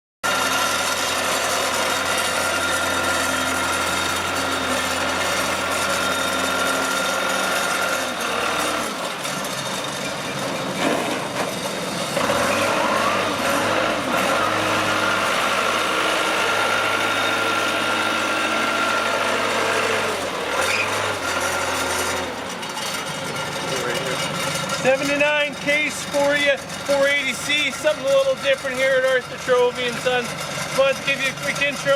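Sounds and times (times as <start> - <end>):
diesel engine clattering: 0.2 - 31.9.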